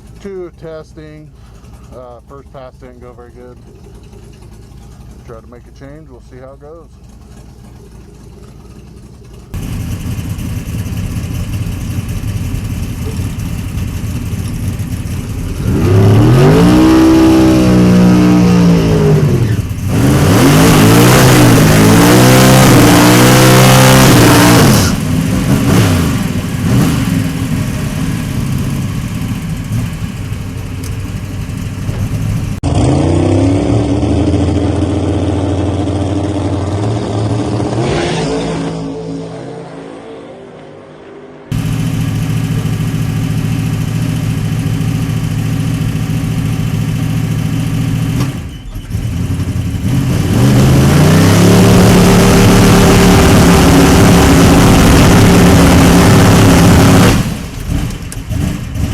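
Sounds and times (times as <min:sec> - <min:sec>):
race car engine accelerating: 0:00.0 - 0:58.9.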